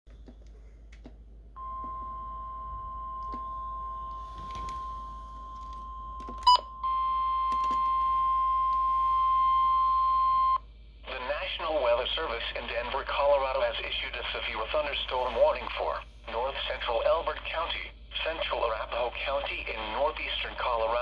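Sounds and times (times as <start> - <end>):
steady warning beep through radio: 1.6 - 21.0.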